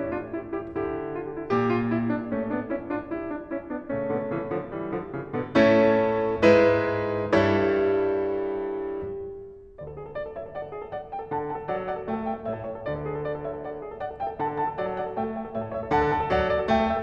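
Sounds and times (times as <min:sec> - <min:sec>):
grand piano playing classical music: 0:00.0 - 0:17.0.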